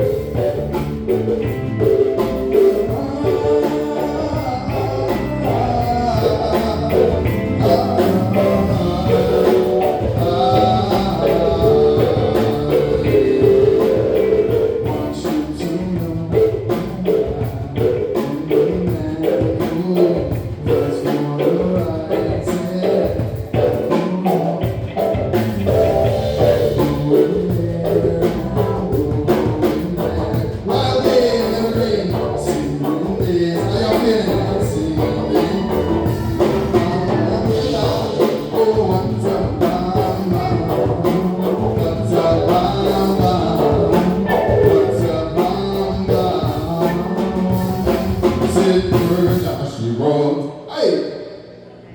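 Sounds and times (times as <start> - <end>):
drum kit beat: 0.0 - 49.6
live band playing: 0.0 - 49.6
person singing: 0.0 - 51.0.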